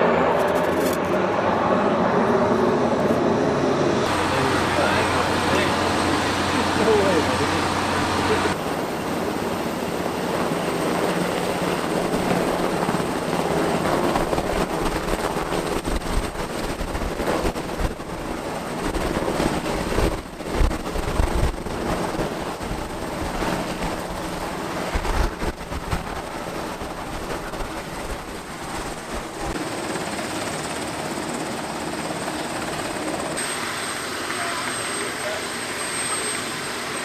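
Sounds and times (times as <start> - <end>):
aircraft engines roaring: 0.0 - 37.0.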